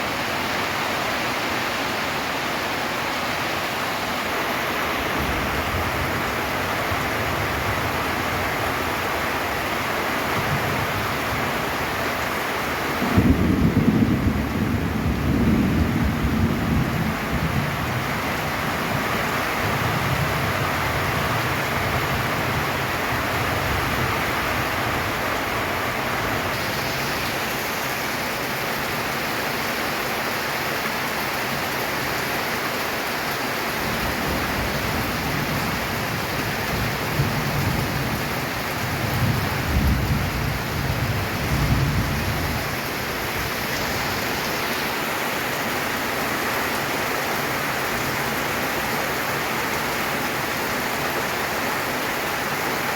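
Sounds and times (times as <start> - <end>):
heavy rain on a tin roof: 0.0 - 52.9.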